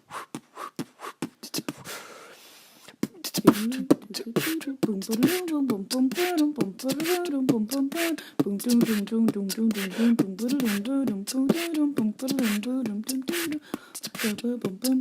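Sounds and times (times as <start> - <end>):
beatboxing mouth hits and clicks: 0.1 - 2.0, 2.8 - 15.0
person humming a tune: 3.0 - 15.0.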